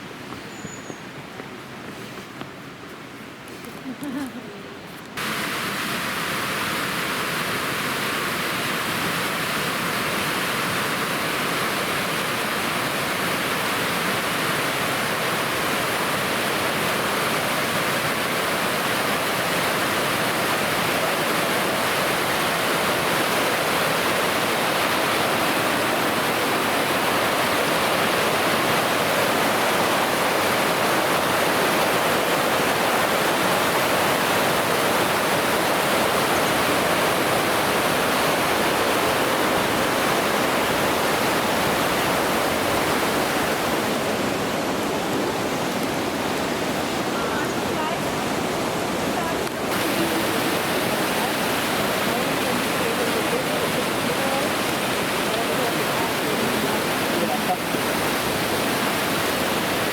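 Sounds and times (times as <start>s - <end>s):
waterfall rushing: 4.7s - 59.9s.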